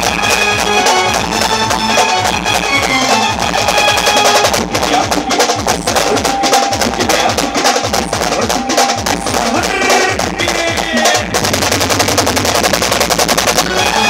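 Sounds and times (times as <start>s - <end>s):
amplified keyboard tune: 0.0s - 14.0s
drums beating fast rhythm: 0.0s - 14.0s.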